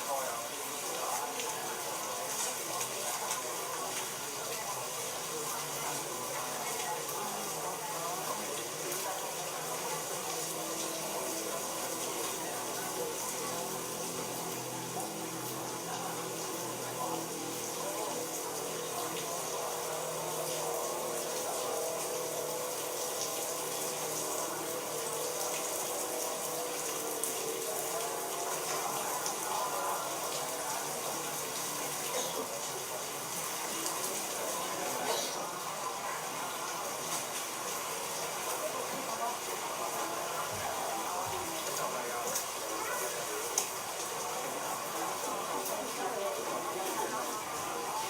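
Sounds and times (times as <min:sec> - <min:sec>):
faint indistinct voices: 0:00.0 - 0:48.0
rain falling steadily: 0:00.0 - 0:48.0.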